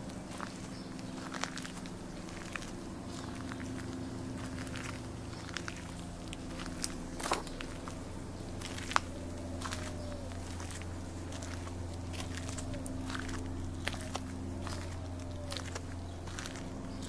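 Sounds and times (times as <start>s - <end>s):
footsteps crunching on path: 0.0s - 17.0s
road traffic hum: 0.0s - 17.0s.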